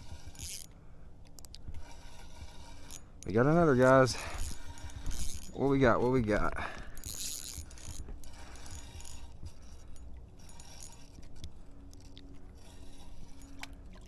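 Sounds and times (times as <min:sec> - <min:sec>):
fishing reel whirring and ratcheting: 0:00.0 - 0:14.0.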